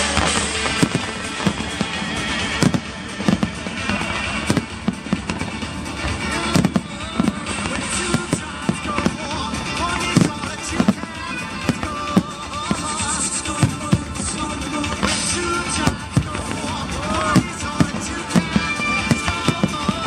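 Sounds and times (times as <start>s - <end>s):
fireworks bangs: 0.0s - 20.0s
music playing: 0.0s - 20.0s.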